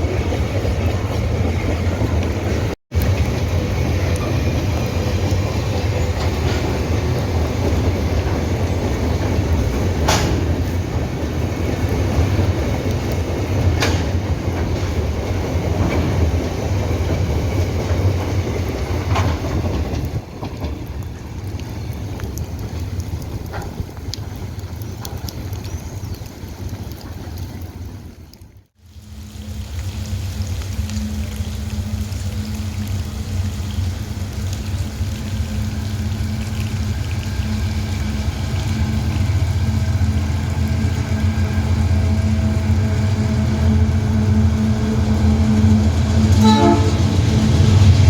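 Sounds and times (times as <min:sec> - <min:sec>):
freight train rumbling: 0:00.0 - 0:28.2, 0:29.3 - 0:48.0.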